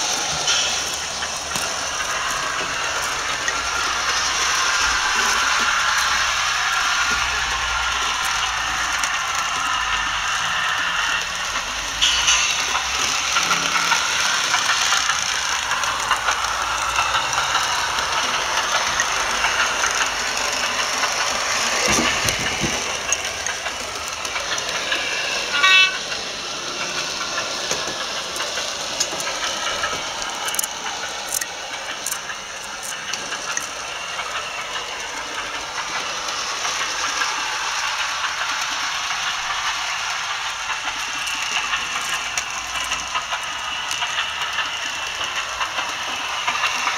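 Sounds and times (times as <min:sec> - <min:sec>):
model train wheels on track: 0:00.0 - 0:46.9.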